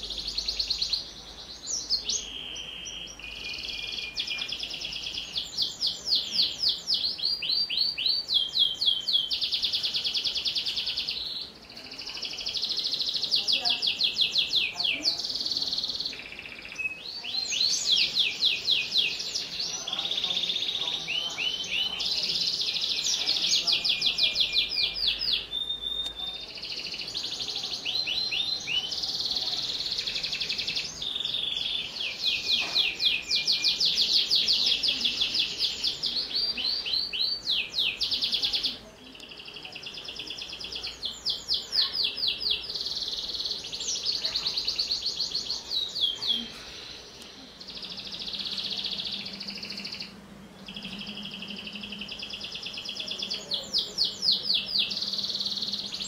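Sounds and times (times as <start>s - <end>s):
canary singing high trills: 0.0s - 11.6s, 12.2s - 47.0s, 47.6s - 56.0s.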